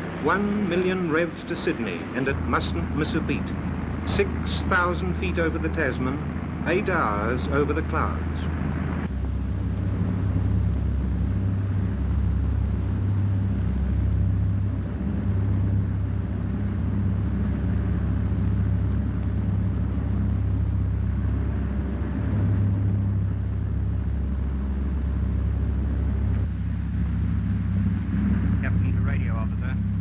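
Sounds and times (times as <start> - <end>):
piston aero engines droning: 0.0 - 30.0.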